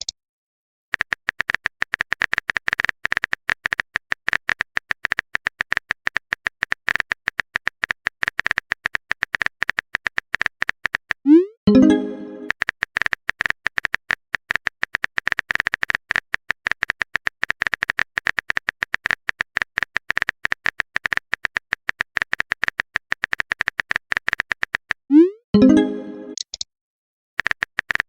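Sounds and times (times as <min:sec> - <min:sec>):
phone keyboard typing clicks: 0:00.9 - 0:25.0, 0:25.6 - 0:26.7, 0:27.4 - 0:28.0.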